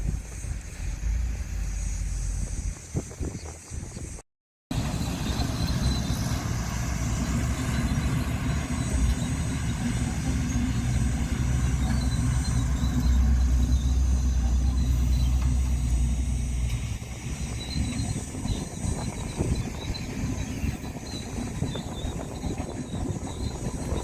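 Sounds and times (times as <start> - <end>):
diesel earthmoving machinery rumble: 0.0 - 24.0.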